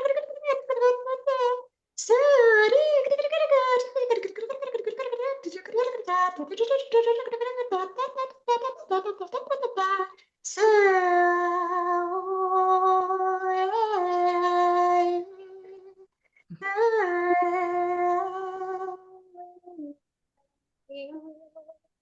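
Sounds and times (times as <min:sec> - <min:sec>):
woman singing wordless held tones: 0:00.0 - 0:16.0, 0:16.6 - 0:20.0, 0:20.9 - 0:21.7.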